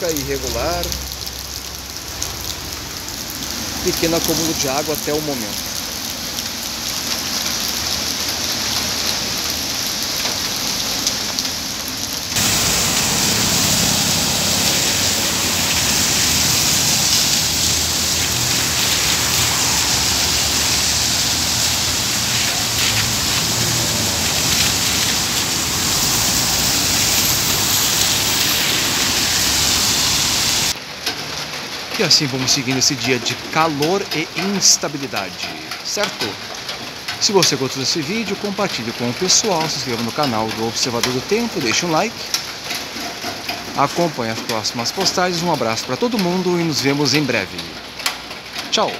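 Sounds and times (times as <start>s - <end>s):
rain falling on wet paving: 0.0s - 48.9s
traffic rumble on wet street: 0.0s - 48.9s.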